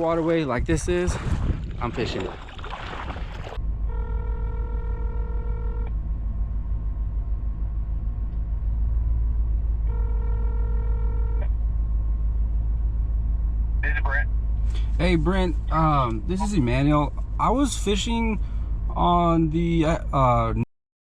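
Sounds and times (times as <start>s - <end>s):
low rumble: 0.0s - 20.6s.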